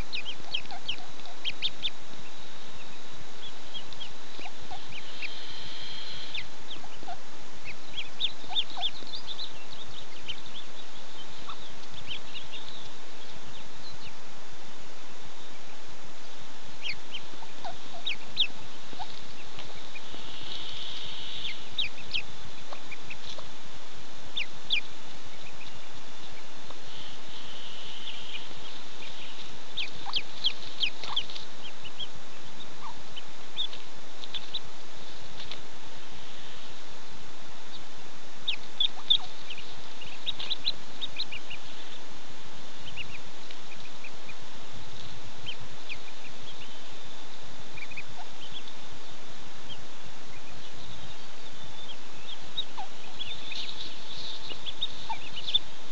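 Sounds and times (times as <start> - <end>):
ducklings peeping: 0.0 - 55.9
steady background hiss: 0.0 - 55.9.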